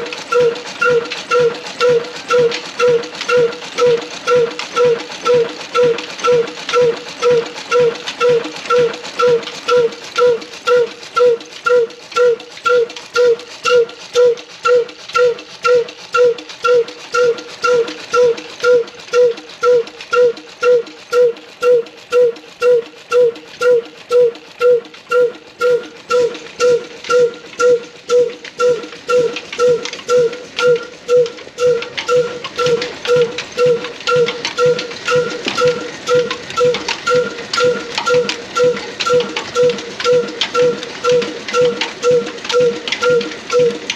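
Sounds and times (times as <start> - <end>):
stationary engine exhaust popping: 0.0 - 43.9.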